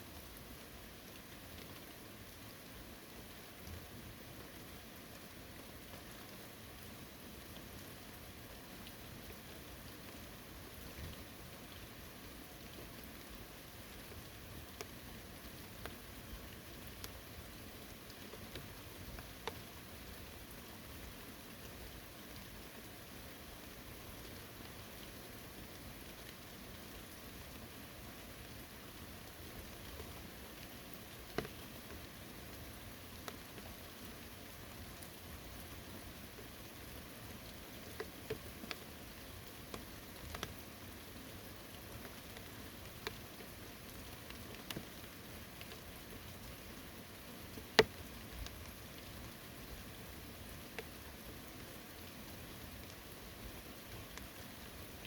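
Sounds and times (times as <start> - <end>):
steady rain hiss: 0.0 - 55.0
sharp raindrops landing close: 7.3 - 55.0.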